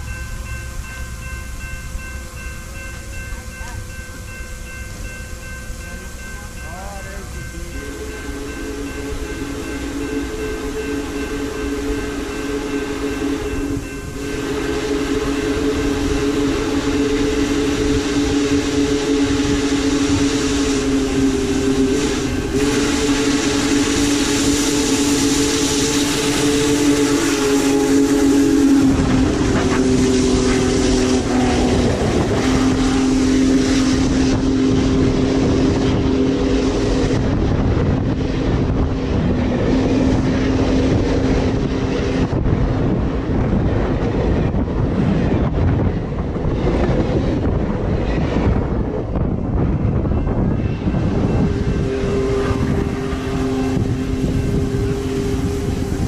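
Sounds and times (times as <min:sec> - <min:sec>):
steam locomotive chime whistle: 0:00.0 - 0:43.3, 0:49.7 - 0:56.0
train wheels rumbling and clattering: 0:00.0 - 0:56.0.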